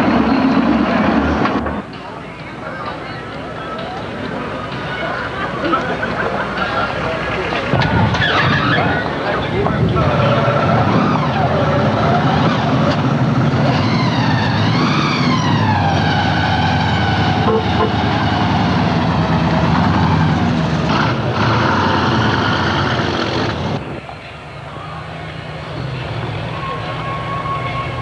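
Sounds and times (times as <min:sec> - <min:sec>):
car engines rumbling: 0:00.0 - 0:28.0.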